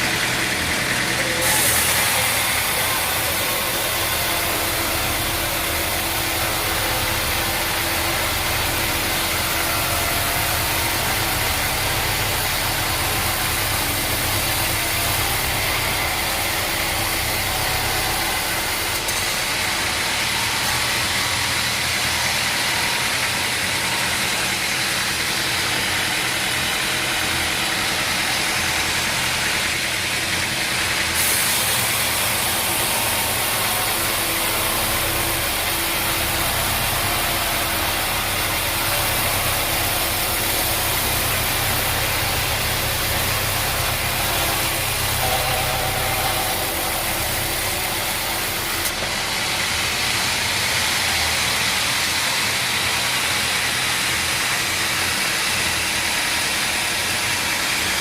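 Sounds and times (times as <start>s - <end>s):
engine humming: 0.0s - 51.2s.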